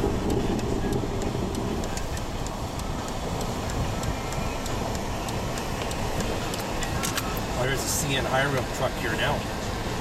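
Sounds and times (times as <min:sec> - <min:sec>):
light regular ticking: 0:00.0 - 0:09.3
vehicle engine rumbling: 0:00.0 - 0:10.0.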